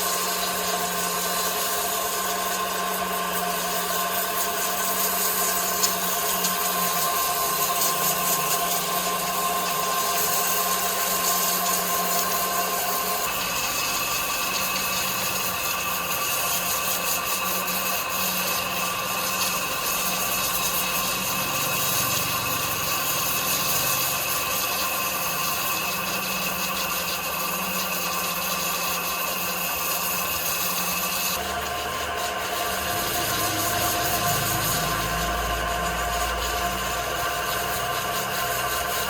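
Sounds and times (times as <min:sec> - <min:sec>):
sawmill saw cutting timber: 0:00.0 - 0:39.0.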